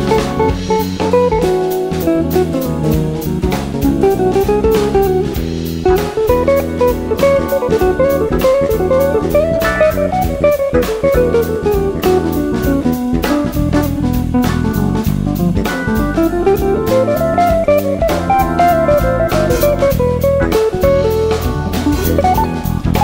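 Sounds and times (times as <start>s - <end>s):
guitar: 0.0s - 23.0s
steady drum beat: 0.0s - 23.0s.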